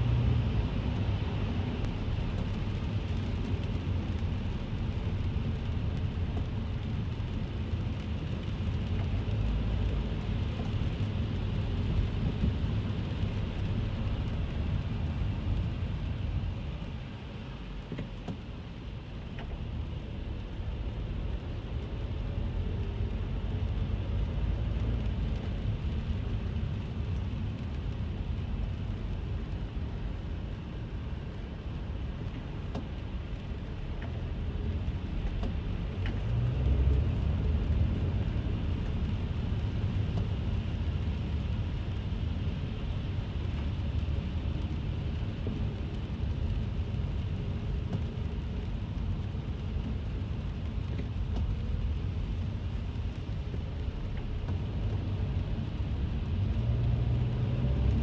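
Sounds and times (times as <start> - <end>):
car engine and tyres rumbling: 0.0 - 58.0
wet road and rain hiss: 0.0 - 58.0.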